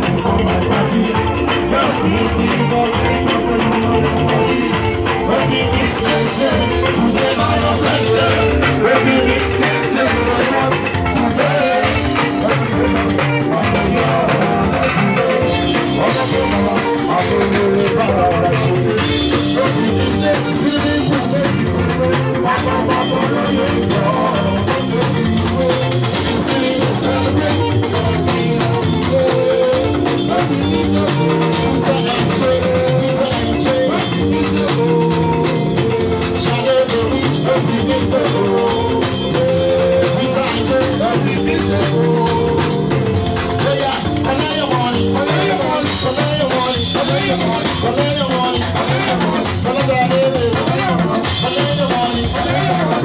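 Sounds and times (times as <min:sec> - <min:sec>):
live band music: 0:00.0 - 0:53.0
man singing: 0:00.0 - 0:53.0.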